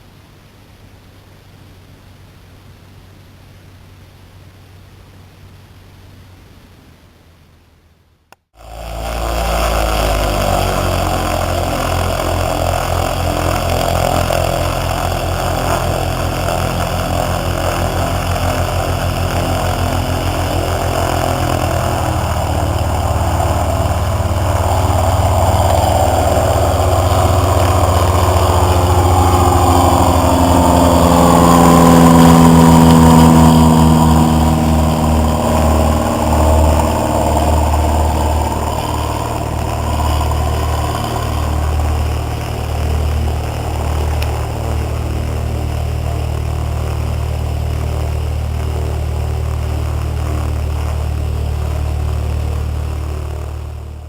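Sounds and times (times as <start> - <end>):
propeller plane engine droning: 8.6 - 54.0.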